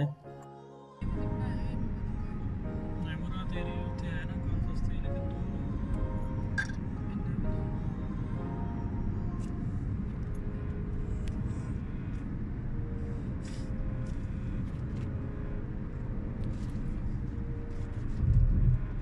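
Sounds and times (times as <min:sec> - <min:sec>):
car interior road and engine rumble: 0:01.0 - 0:19.0.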